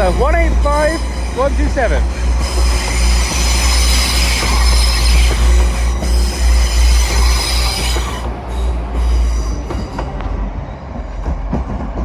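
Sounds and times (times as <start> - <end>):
high-pitched squeal: 0.0 - 10.7
diesel train engines rumbling: 0.0 - 12.0.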